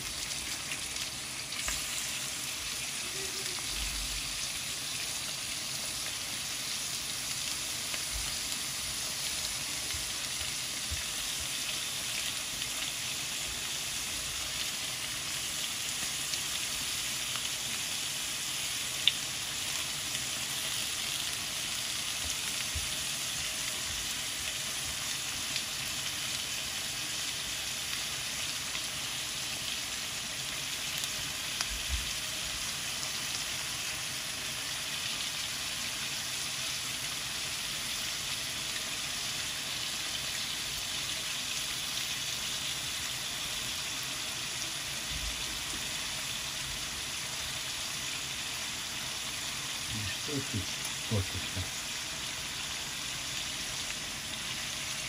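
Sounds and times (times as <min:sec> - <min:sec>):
onions sizzling in oil: 0:00.0 - 0:55.0.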